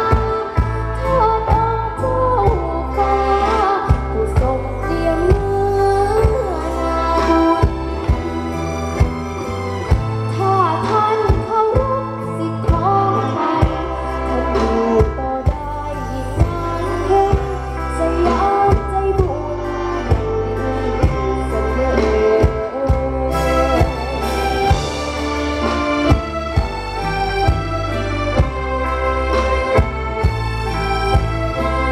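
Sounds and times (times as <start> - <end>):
sustained bass line: 0.0 - 31.9
regular drum beat: 3.8 - 31.9.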